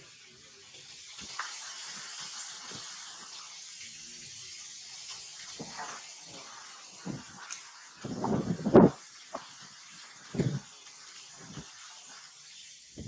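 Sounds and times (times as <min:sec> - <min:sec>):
water hissing in rock pool: 0:00.0 - 0:13.0.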